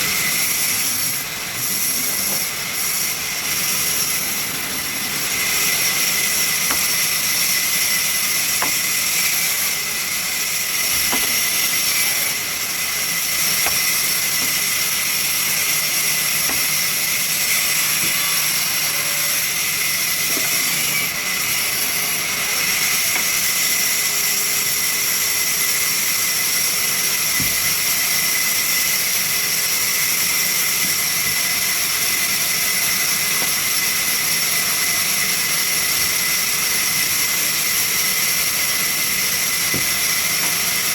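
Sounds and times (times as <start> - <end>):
sawmill saw hissing and whining: 0.0 - 40.9.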